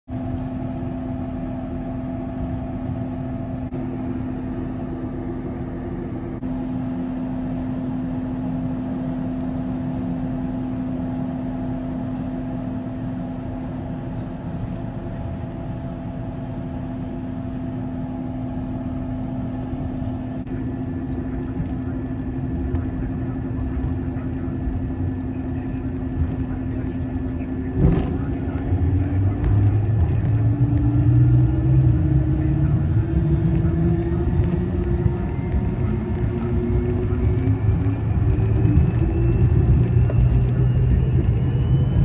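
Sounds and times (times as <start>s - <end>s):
jet engine cabin drone: 0.1s - 42.0s.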